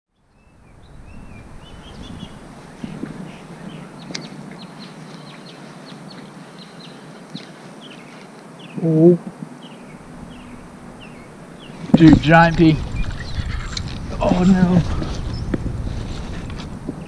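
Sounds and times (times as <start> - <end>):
low outdoor background: 0.1 - 17.0
small birds chirping: 0.1 - 17.0.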